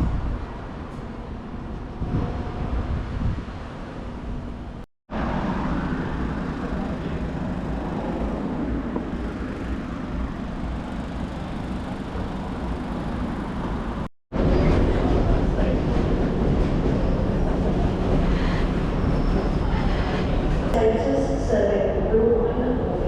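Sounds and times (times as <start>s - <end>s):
vehicles passing on street: 0.0s - 23.0s.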